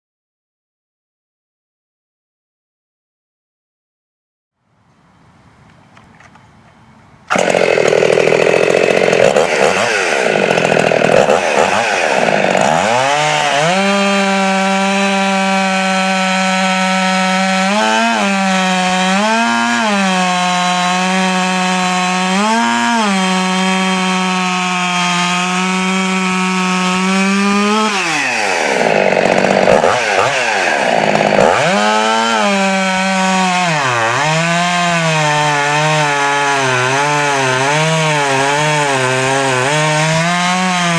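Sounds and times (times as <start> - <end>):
chainsaw running at high revs: 7.3 - 40.9.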